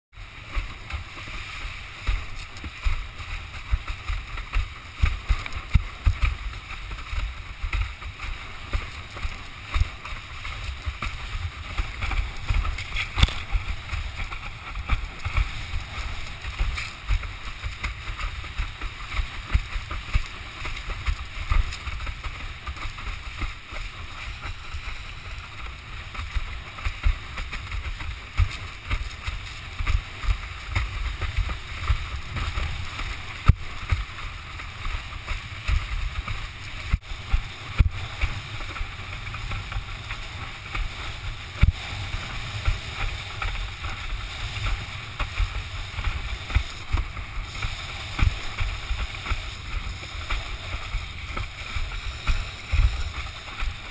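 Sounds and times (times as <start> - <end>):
water hiss and spray: 0.2 - 53.9
water splashes: 0.2 - 53.9
wind buffeting microphone: 0.4 - 53.9.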